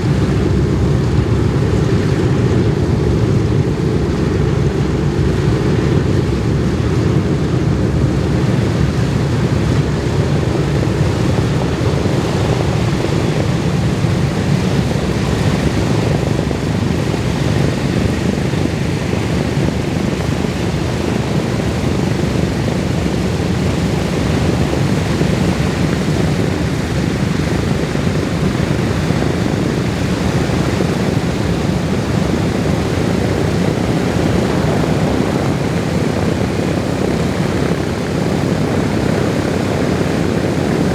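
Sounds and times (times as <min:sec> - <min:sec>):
propeller aircraft engines droning: 0:00.0 - 0:40.9.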